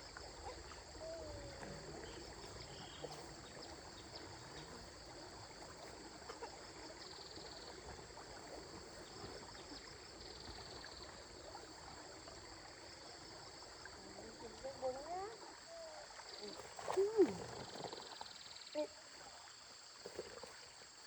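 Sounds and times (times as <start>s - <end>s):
stream water trickling: 0.0s - 21.0s.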